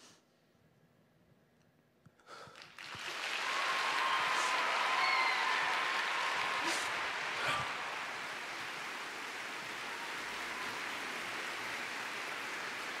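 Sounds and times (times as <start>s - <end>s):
audience applause: 2.4s - 13.0s.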